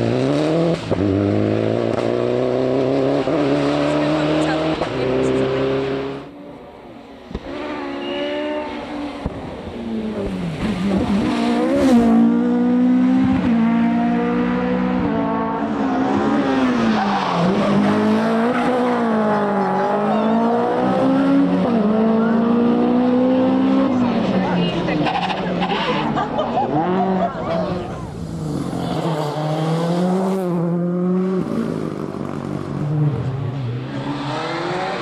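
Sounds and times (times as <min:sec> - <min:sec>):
rally car engines revving: 0:00.0 - 0:35.0.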